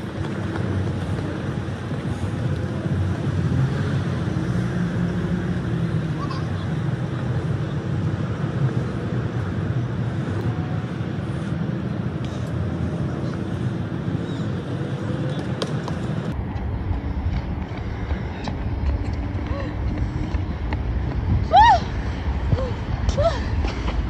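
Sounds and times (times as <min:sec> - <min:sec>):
low outdoor background noise: 0:00.0 - 0:24.0.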